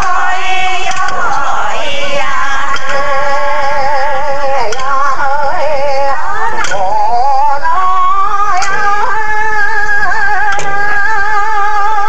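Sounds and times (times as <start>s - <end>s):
folk singing from cassette: 0.0s - 12.0s.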